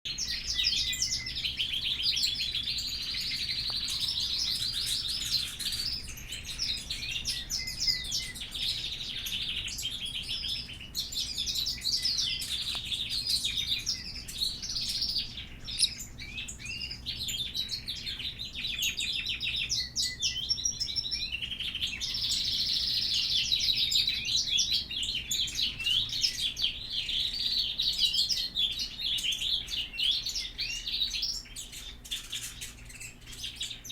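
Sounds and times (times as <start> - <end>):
small birds chirping and twittering: 0.0 - 33.9.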